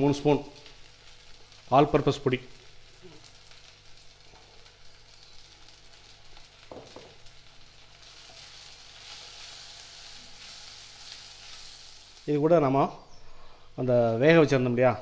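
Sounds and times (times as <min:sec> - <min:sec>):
onions frying in oil: 0:00.0 - 0:13.2.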